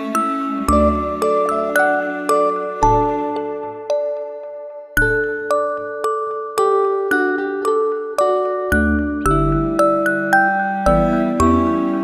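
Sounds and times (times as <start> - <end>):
slow melody of struck notes: 0.0 - 12.0.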